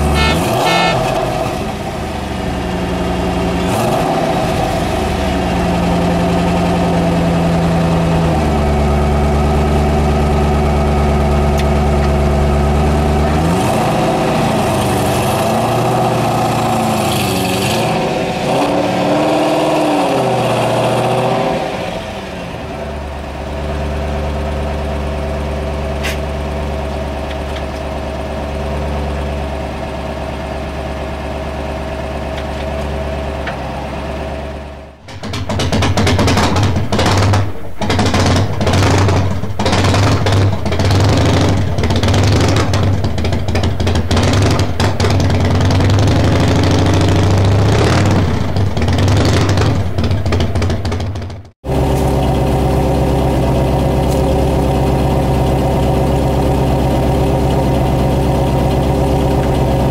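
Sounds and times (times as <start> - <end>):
engine revving: 0.0 - 26.6, 32.4 - 59.9
car engines idling: 0.0 - 59.9.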